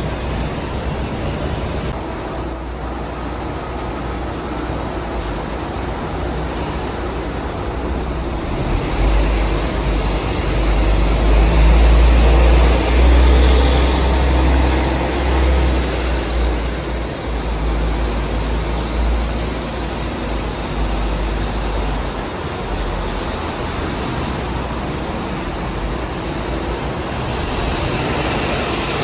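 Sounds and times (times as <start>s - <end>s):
bus engine rumbling: 0.0s - 29.0s
second bus engine: 0.0s - 29.0s.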